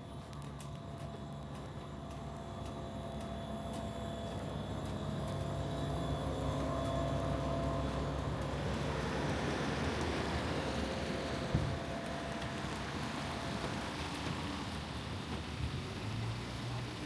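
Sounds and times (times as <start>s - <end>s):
vehicle engine hum: 1.5s - 17.0s.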